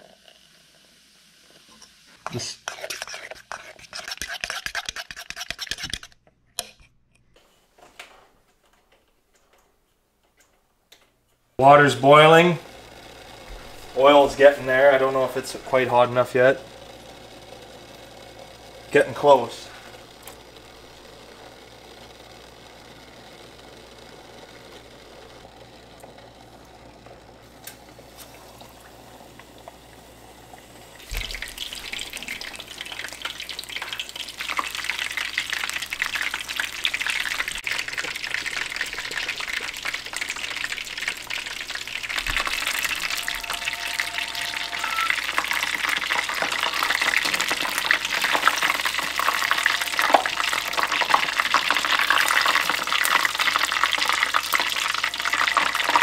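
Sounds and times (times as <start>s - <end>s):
fish deep-frying in hot oil: 0.0s - 3.6s, 11.8s - 56.0s.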